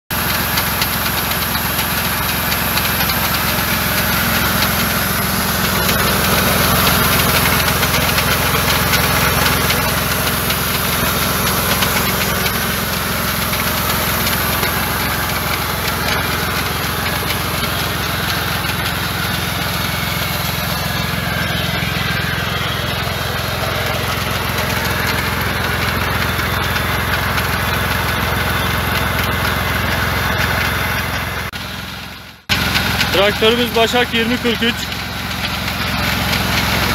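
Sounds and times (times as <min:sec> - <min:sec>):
tractor engine running: 0:00.1 - 0:36.9.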